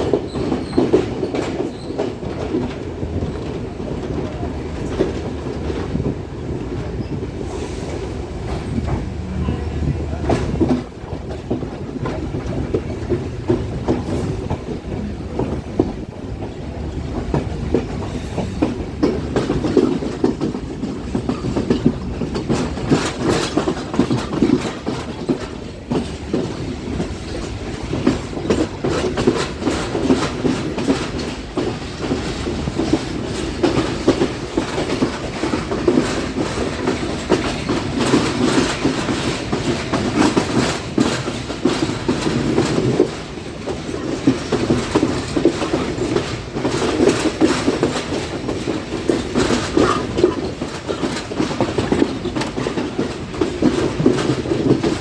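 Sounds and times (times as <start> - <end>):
train rumbling along track: 0.0 - 55.0
wheels clattering over rail joints: 0.0 - 55.0.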